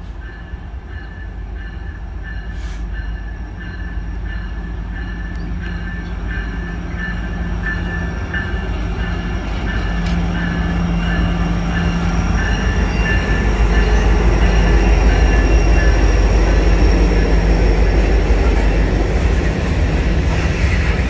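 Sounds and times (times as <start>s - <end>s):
diesel locomotive engine drone: 0.0s - 21.0s
train wheels rumbling on rail: 0.0s - 21.0s.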